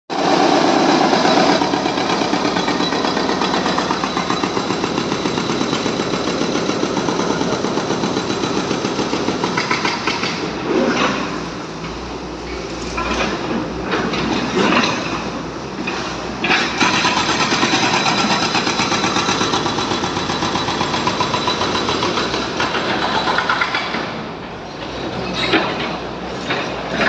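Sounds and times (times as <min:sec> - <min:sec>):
excavator diesel engine running: 0:00.1 - 0:10.7, 0:11.6 - 0:27.0.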